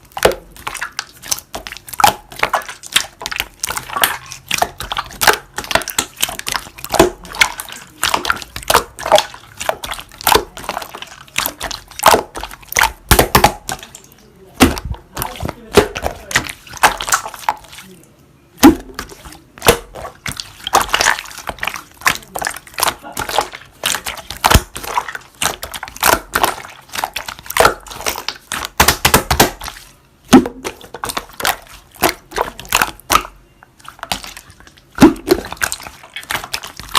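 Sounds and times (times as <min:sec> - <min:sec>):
slime squished by hand: 0:00.0 - 0:18.0, 0:18.6 - 0:36.9.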